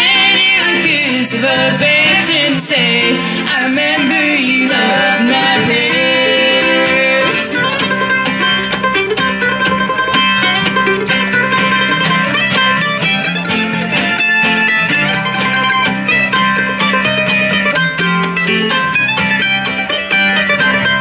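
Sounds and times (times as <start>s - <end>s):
acoustic guitar: 0.0s - 21.0s
picked string instrument lead: 0.0s - 21.0s.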